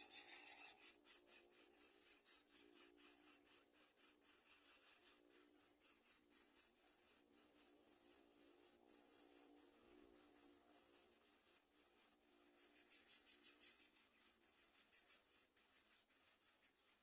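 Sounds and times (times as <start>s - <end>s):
rapid high-pitched chirping: 0.0s - 17.0s.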